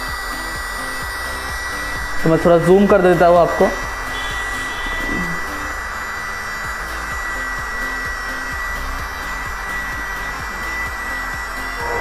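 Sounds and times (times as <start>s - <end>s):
small vacuum cleaner whining: 0.0s - 12.0s.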